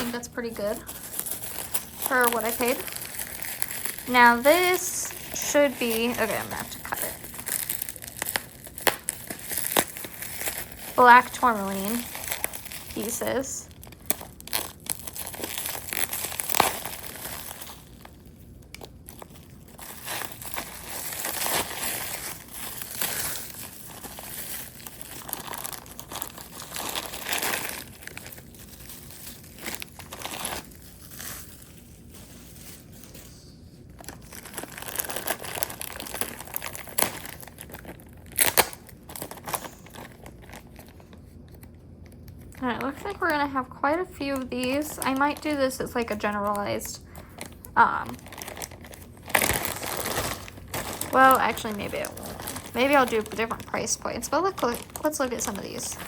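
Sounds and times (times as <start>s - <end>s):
packaging crinkling and rustling: 0.0s - 56.0s.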